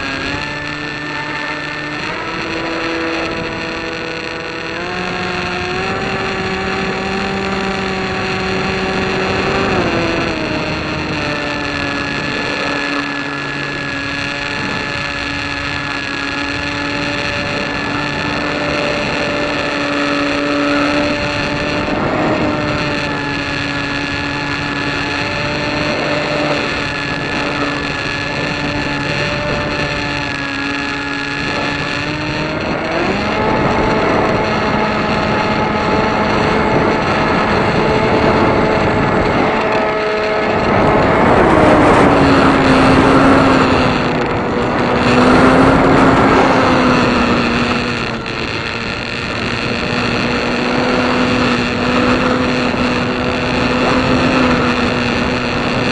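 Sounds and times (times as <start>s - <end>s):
light aircraft engine drone: 0.0s - 55.9s.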